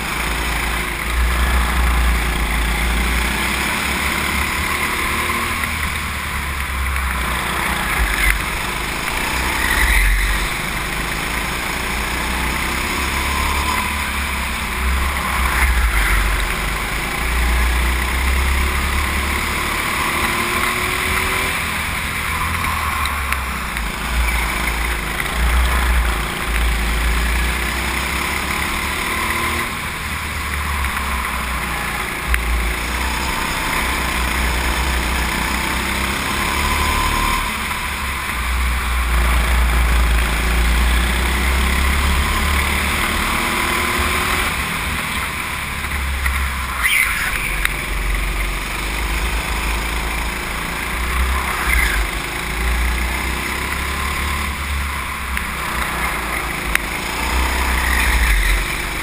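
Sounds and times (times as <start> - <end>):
go-kart engine at speed: 0.0 - 59.0.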